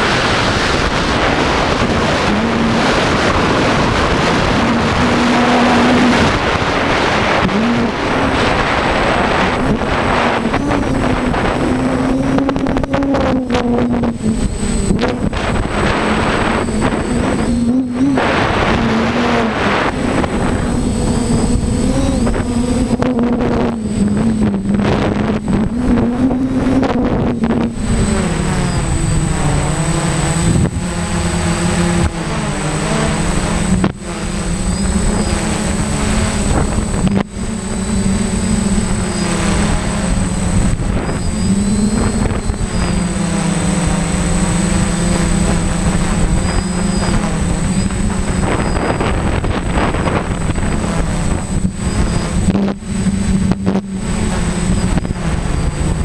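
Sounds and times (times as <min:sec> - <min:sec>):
drone motors humming: 0:00.0 - 0:56.0
wind buffeting on microphone: 0:00.0 - 0:56.0.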